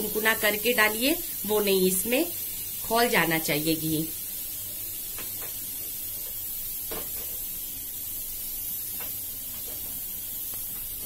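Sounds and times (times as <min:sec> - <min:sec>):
hot oil hissing: 0:00.0 - 0:11.0.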